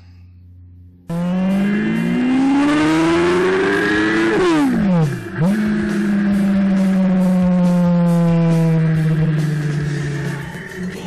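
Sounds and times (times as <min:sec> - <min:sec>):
motorcycle engine revving: 0:01.0 - 0:11.0.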